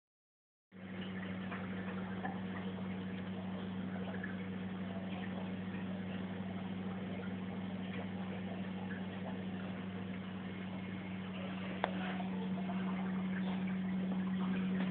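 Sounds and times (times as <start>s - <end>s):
faint trickling water: 0.7s - 14.9s
filter pump humming: 0.7s - 14.9s.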